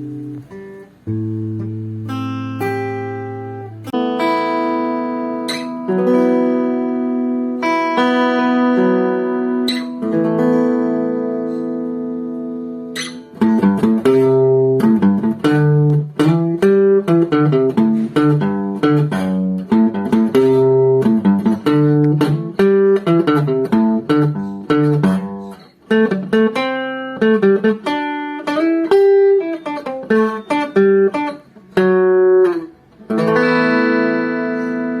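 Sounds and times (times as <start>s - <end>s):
acoustic guitar plucked notes: 0.0s - 35.0s.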